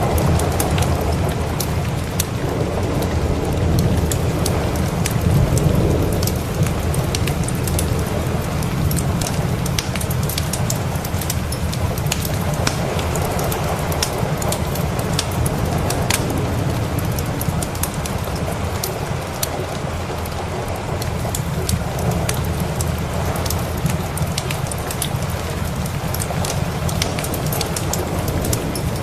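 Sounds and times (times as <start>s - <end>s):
low thunder rumble: 0.0s - 29.0s
steady rain: 0.0s - 29.0s
wood fire crackling: 0.0s - 29.0s.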